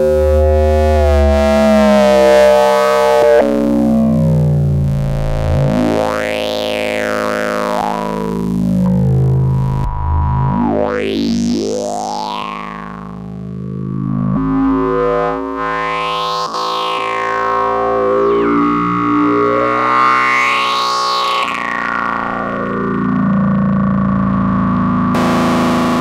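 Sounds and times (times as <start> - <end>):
buzzy synthesizer drone: 0.0 - 26.0.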